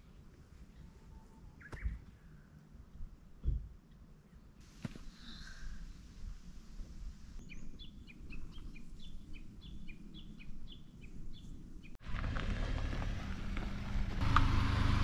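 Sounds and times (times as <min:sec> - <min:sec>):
low outdoor rumble: 0:02.1 - 0:15.0.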